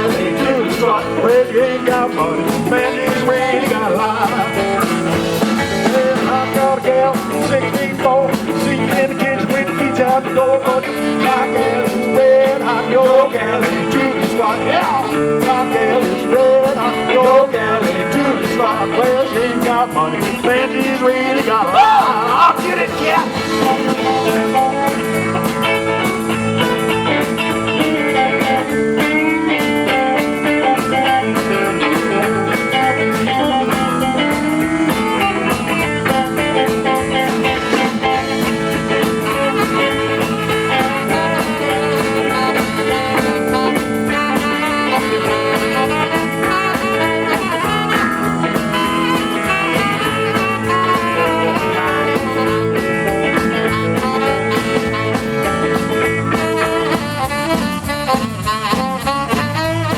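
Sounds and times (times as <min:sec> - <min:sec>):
blues rock band playing: 0:00.0 - 0:59.9
drum kit: 0:00.0 - 0:59.9
electric guitar: 0:00.0 - 0:59.9.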